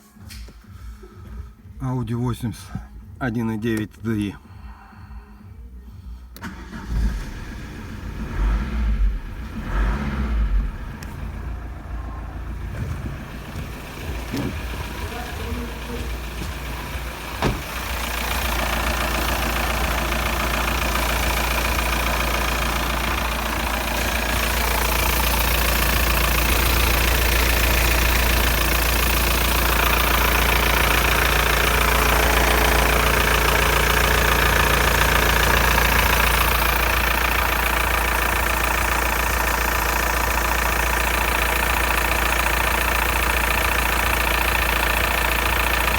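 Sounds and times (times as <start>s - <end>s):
diesel engine idling: 0.4s - 45.9s.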